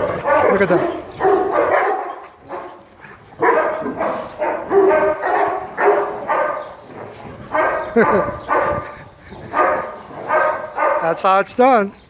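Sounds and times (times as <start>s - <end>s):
dogs barking and yipping: 0.0s - 11.7s.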